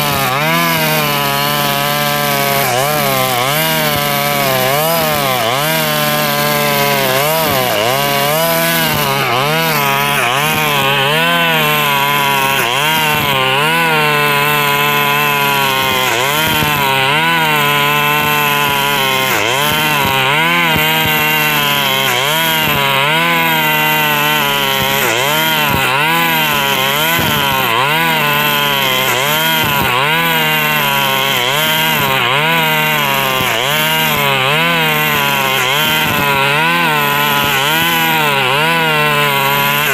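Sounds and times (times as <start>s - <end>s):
brush cutter engine running loud: 0.0s - 39.9s.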